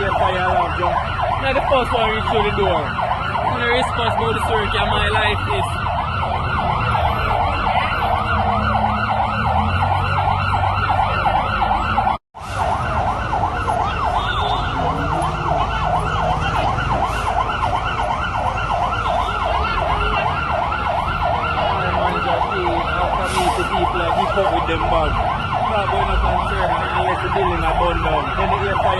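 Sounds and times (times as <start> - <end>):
siren yelping: 0.0 - 28.9.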